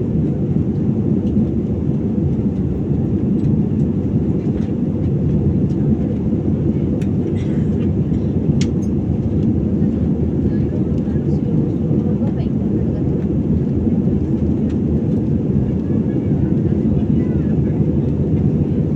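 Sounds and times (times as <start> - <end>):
airliner cabin roar: 0.0 - 18.9.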